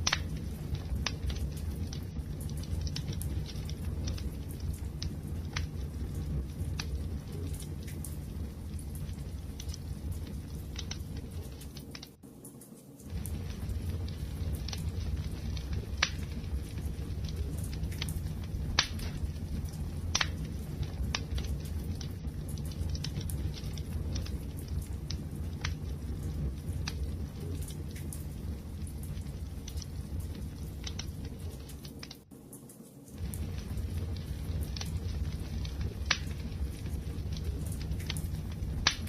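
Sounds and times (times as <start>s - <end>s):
low rumble of flames: 0.0s - 39.0s
wood crackling and popping: 0.0s - 39.0s.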